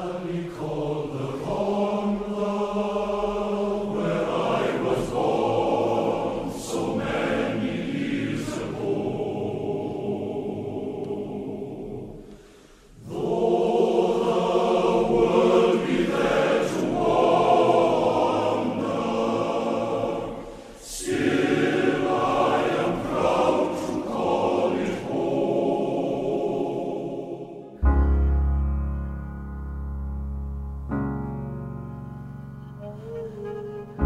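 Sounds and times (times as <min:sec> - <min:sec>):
layered sung vocals: 0:00.0 - 0:27.9.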